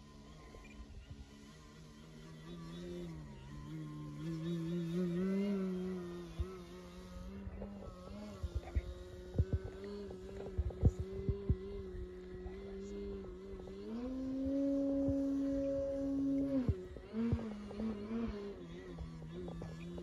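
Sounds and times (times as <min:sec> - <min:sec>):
model plane motor droning: 0:00.0 - 0:20.0.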